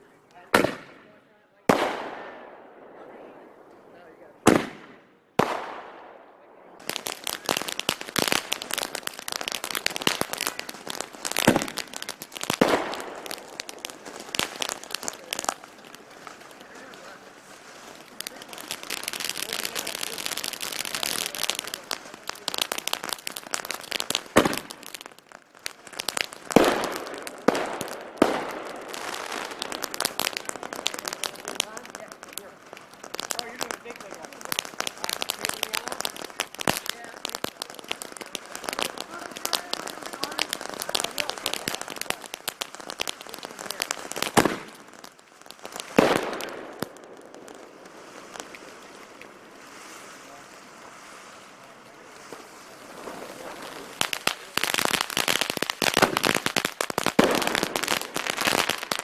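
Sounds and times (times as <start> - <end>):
fireworks crackling: 0.0 - 59.0
loud firework bangs: 0.5 - 49.6, 52.2 - 59.0.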